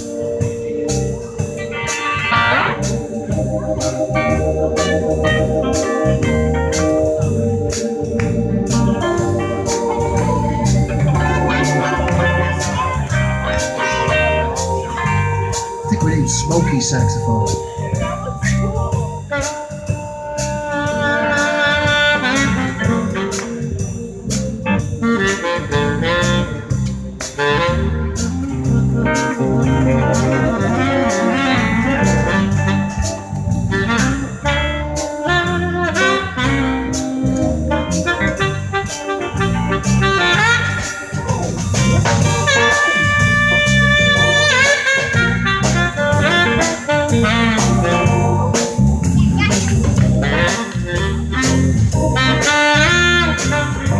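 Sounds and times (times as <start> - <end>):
bass guitar: 0.0 - 53.9
drums: 0.0 - 53.9
keyboard: 0.0 - 53.9
saxophone lead line: 0.0 - 53.9.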